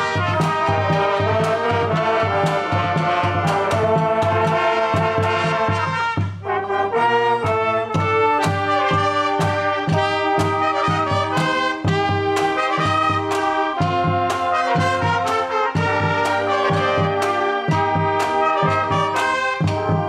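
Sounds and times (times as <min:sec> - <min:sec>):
brass and woodwind band playing: 0:00.0 - 0:20.0.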